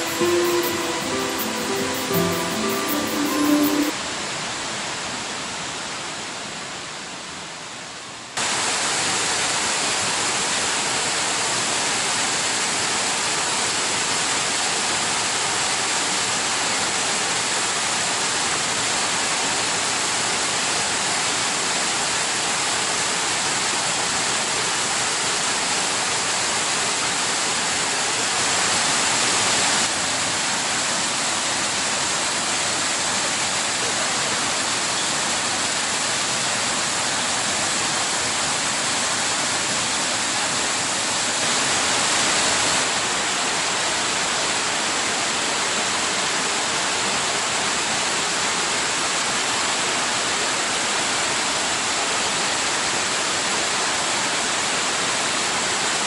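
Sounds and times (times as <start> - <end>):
waterfall rushing: 0.0 - 5.8, 8.4 - 56.0.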